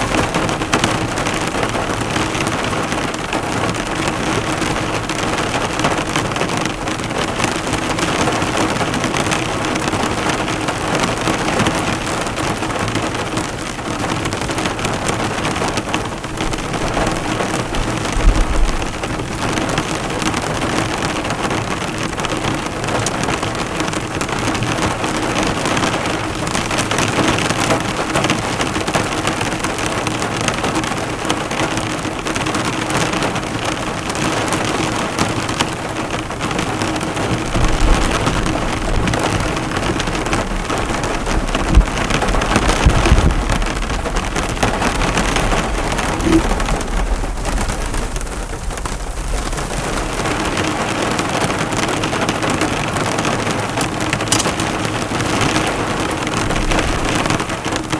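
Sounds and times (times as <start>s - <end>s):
heavy rain on a car: 0.0s - 57.9s.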